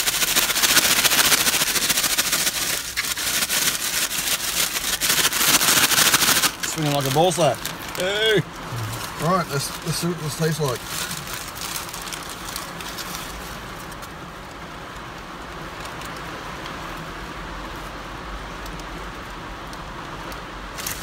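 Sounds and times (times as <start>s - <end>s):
constant low hum: 0.0s - 21.0s
rain on car roof: 0.0s - 21.0s.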